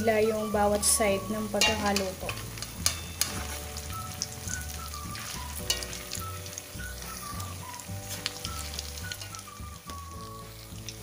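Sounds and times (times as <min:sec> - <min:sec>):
background melody: 0:00.0 - 0:11.0
food sizzling in hot oil: 0:00.0 - 0:11.0.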